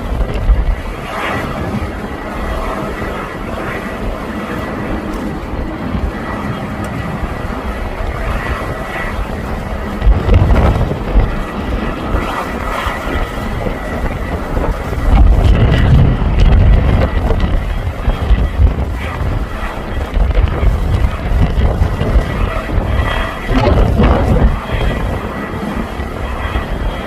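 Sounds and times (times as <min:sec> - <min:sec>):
jet engines at takeoff thrust: 0:00.0 - 0:27.0
wind buffeting microphone: 0:00.0 - 0:27.0.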